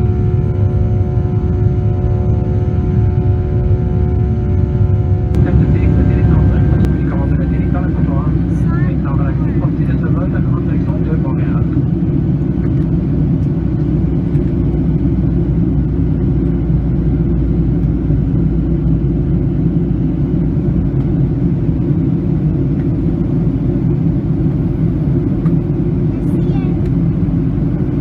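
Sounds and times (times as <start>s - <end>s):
airplane cabin drone: 0.0s - 28.0s.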